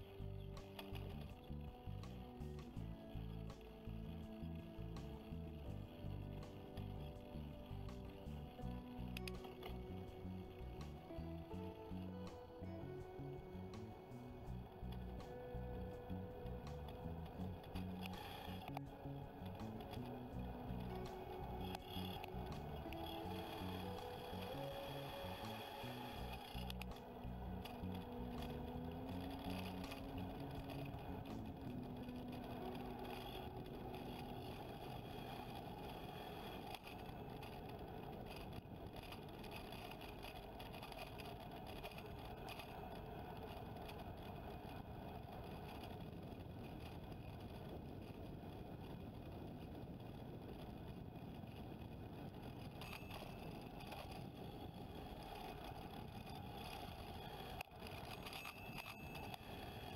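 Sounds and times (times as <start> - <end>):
bike road noise: 0.0 - 59.9
faint steady tones: 0.0 - 59.9
rushing wind: 0.0 - 59.9.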